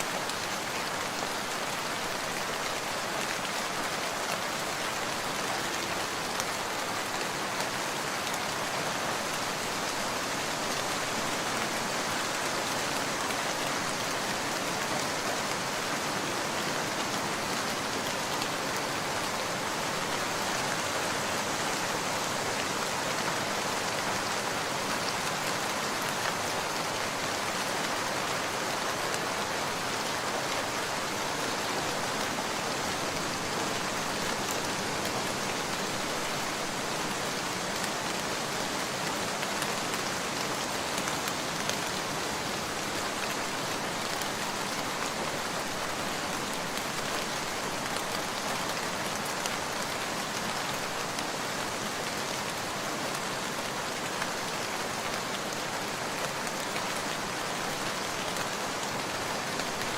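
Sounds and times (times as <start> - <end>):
steady rain hissing: 0.0 - 59.9.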